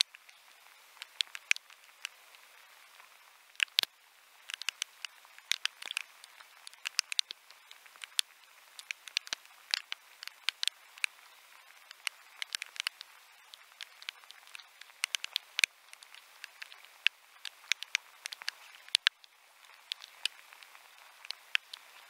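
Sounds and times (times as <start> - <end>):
faint steady hiss: 0.0 - 22.0
raindrops tapping on camera: 0.0 - 22.0.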